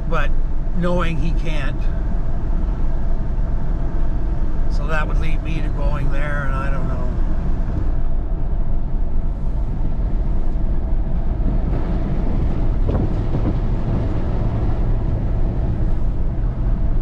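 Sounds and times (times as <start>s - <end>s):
truck engine and tyres rumbling: 0.0s - 17.0s.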